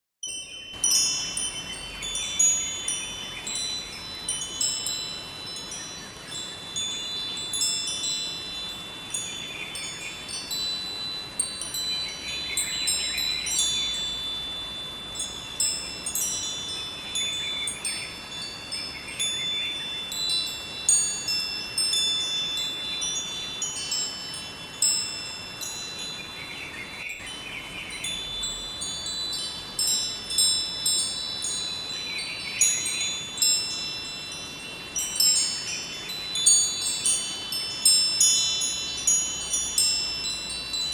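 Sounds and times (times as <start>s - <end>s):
wind chimes ringing: 0.2s - 40.9s.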